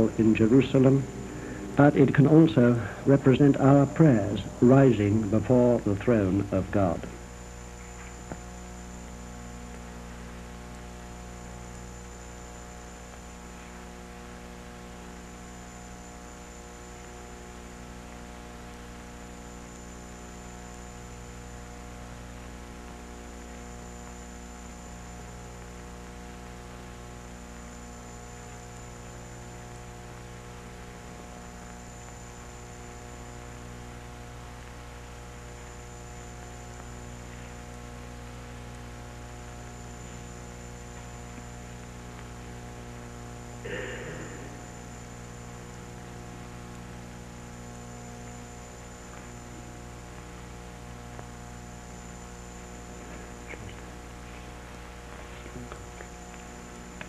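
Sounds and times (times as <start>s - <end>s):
electrical mains hum: 0.0s - 57.0s
faint high whine: 0.0s - 57.0s
light hiss: 0.0s - 57.0s.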